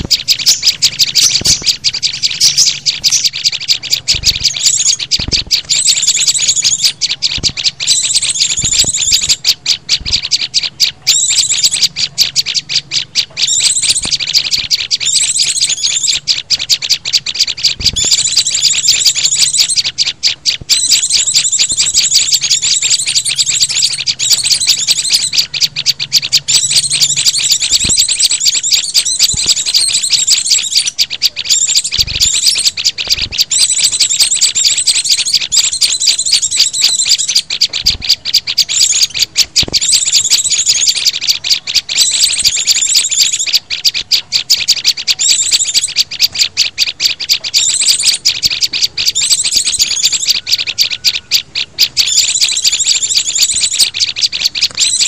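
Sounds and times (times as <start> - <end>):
small songbirds chirping and twittering: 0.0 - 55.0.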